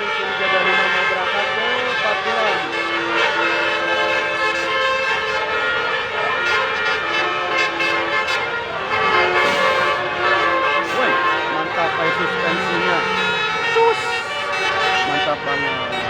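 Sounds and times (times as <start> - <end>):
bus air horn playing a tune: 0.0 - 16.0.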